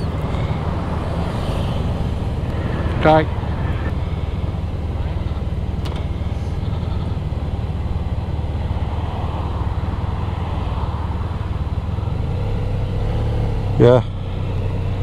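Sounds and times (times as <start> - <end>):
motorcycle engine rumble: 0.0 - 15.0
wind and road noise: 0.0 - 15.0.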